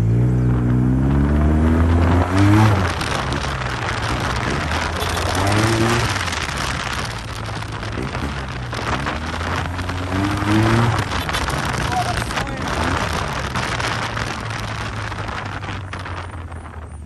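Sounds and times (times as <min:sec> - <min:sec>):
scooter engine revving: 0:00.0 - 0:16.2
wind on microphone: 0:00.0 - 0:17.0.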